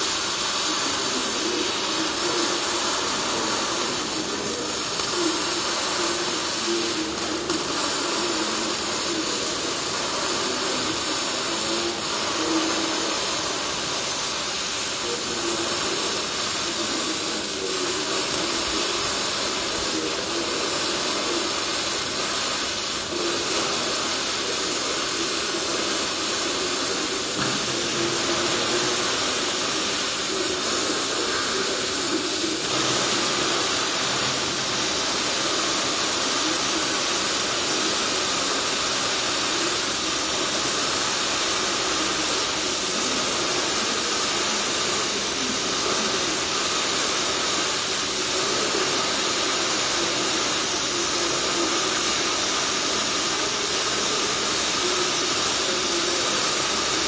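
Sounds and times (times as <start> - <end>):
welding arc hissing: 0.0 - 57.0.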